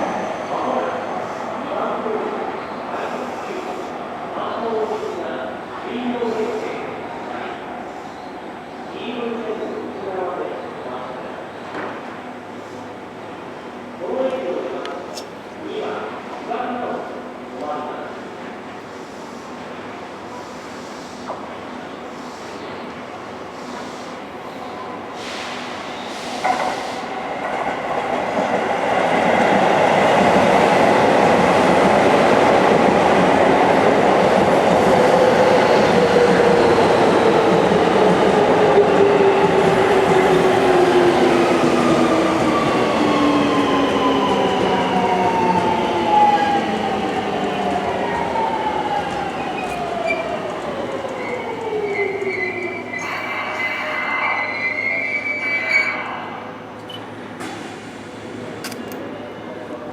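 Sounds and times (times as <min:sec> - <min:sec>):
rail and wheel noise: 0:00.0 - 0:59.9.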